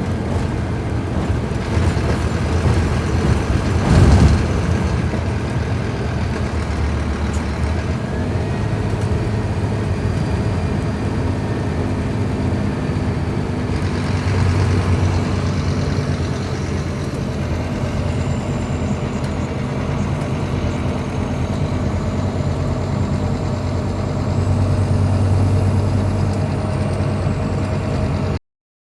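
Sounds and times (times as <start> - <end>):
bus engine running: 0.0 - 28.4.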